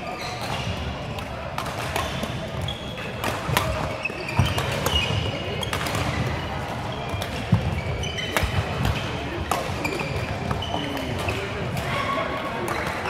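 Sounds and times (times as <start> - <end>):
shoes squeaking on court floor: 0.0 - 1.0, 1.6 - 11.7
racket hitting shuttlecock: 0.3 - 11.9.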